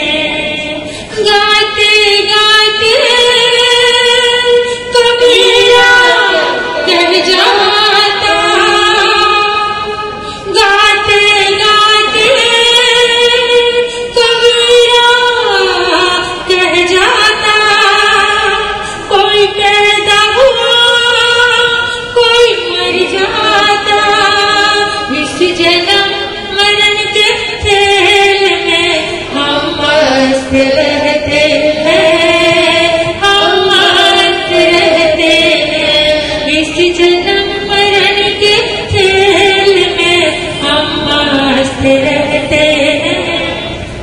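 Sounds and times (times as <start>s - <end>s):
woman singing devotional song: 0.0s - 44.0s.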